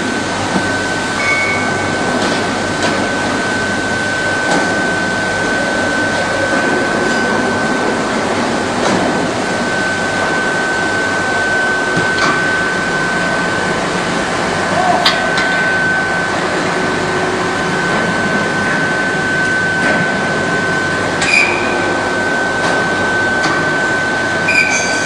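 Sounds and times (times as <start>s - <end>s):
furnace high-pitched whine: 0.0s - 25.0s
industrial din: 0.0s - 25.0s.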